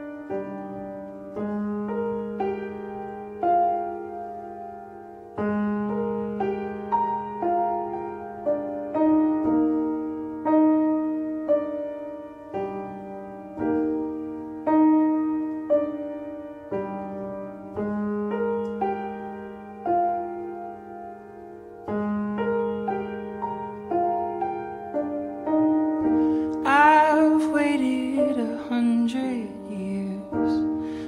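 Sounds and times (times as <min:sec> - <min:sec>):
slow gentle piano music: 0:00.0 - 0:31.0.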